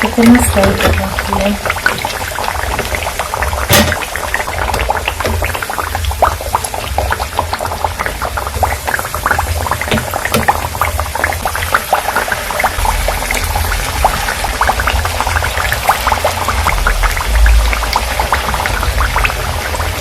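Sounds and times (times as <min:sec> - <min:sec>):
fritters sizzling in hot oil: 0:00.0 - 0:20.0.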